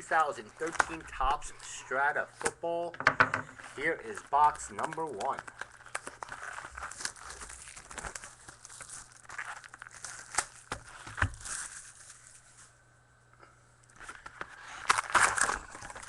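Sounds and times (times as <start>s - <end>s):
plastic wrapping crinkling: 0.0s - 2.6s, 3.5s - 12.8s, 13.8s - 16.0s.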